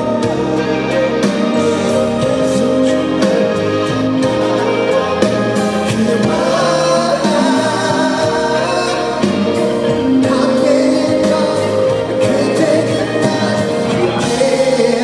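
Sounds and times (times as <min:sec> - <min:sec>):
band accompaniment: 0:00.0 - 0:15.0
person singing: 0:00.0 - 0:15.0.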